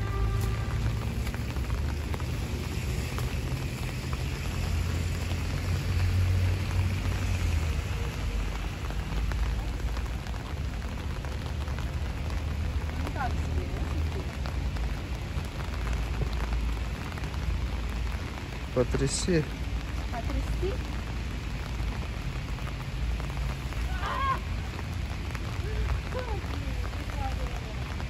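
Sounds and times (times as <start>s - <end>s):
light rain pattering on leaves: 0.0s - 28.0s.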